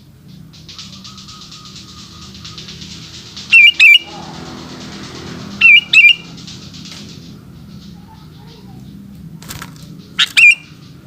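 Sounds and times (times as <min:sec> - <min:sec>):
bulbul whistled calls: 0:00.2 - 0:09.0, 0:10.0 - 0:11.0.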